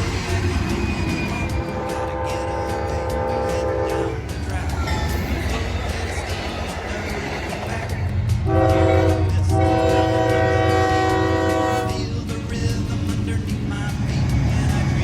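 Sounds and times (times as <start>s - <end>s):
locomotive air horn: 0.0s - 12.2s
train rumble: 0.0s - 15.0s.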